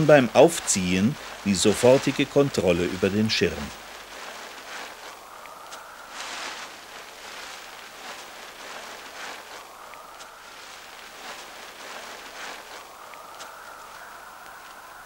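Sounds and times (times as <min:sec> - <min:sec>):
wing fabric rustling: 0:00.0 - 0:15.0.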